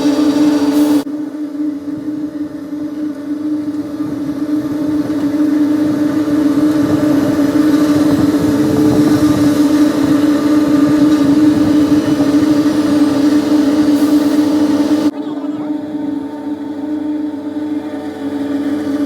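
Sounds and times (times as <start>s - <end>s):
heavy construction machine rumbling: 0.0s - 19.0s.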